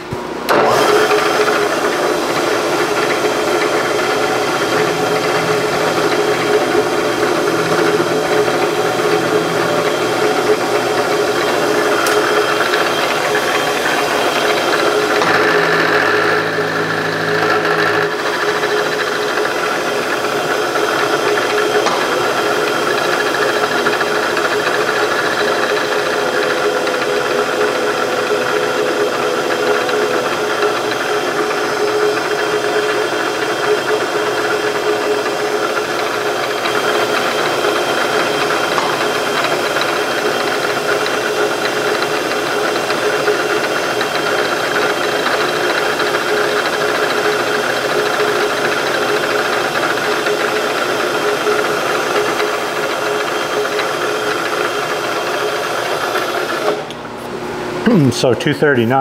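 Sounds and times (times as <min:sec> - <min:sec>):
milling machine cutting metal: 0:00.0 - 0:58.9.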